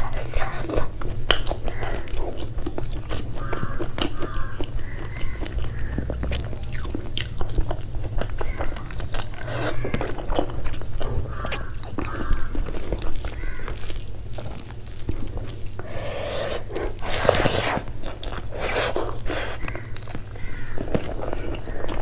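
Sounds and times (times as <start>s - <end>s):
bite into vegetable: 0.0s - 22.0s
wet chewing: 0.0s - 22.0s.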